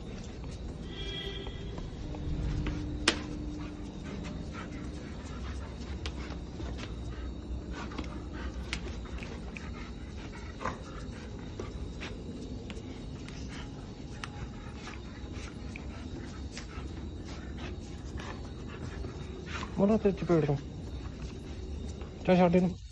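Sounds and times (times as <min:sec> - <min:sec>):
dog panting: 0:00.0 - 0:22.9.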